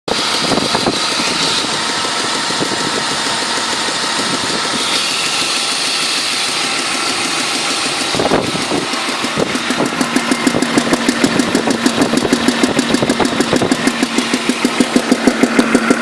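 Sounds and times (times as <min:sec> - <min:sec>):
car engine running: 0:00.1 - 0:16.0
fast ticking rattle: 0:00.1 - 0:16.0.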